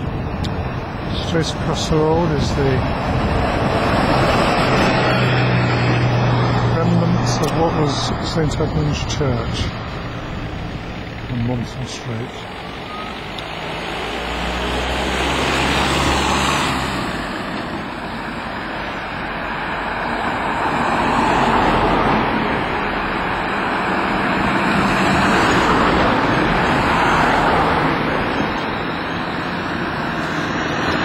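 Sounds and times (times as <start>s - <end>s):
cars passing: 0.0s - 31.0s
low engine hum: 0.0s - 31.0s.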